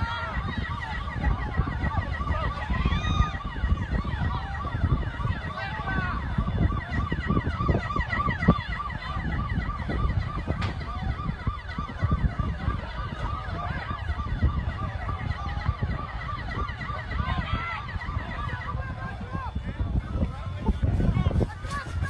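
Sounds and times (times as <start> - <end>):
emergency sirens: 0.0 - 22.0.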